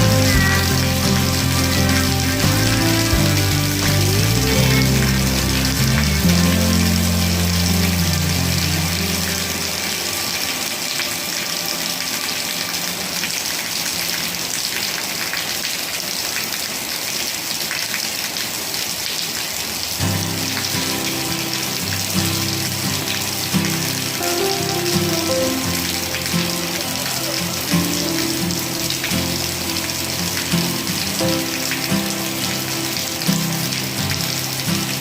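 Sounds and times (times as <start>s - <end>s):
music: 0.0s - 14.1s, 20.0s - 35.0s
rain falling steadily: 0.0s - 35.0s.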